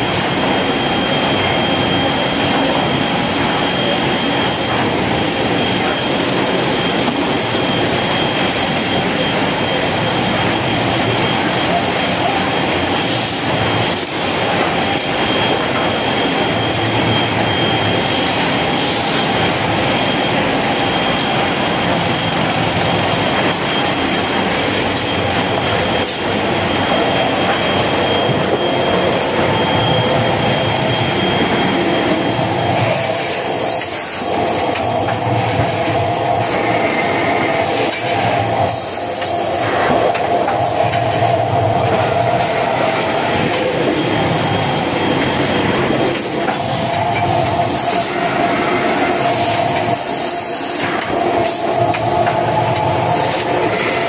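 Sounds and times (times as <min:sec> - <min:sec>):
machinery clatter and rattle: 0:00.0 - 0:54.0
thin high whine: 0:00.0 - 0:54.0.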